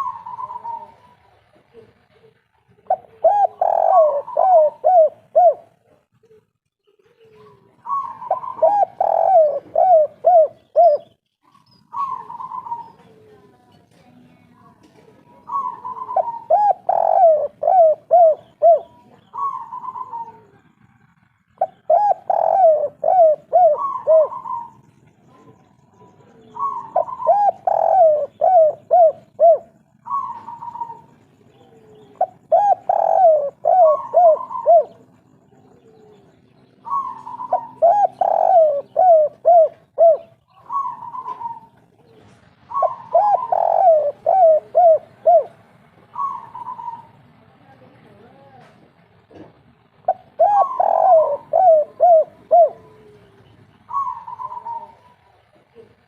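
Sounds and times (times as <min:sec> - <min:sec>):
doves cooing: 0:00.0 - 0:13.6, 0:14.9 - 0:47.4, 0:49.3 - 0:56.0.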